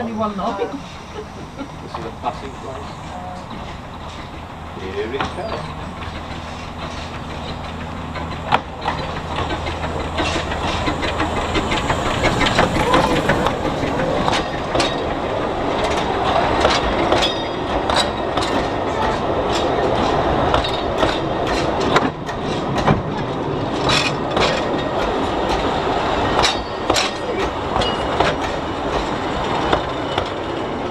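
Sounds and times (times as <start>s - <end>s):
wheels rumbling on rails: 0.0s - 30.9s
wheels clicking over rail joints: 1.4s - 30.9s.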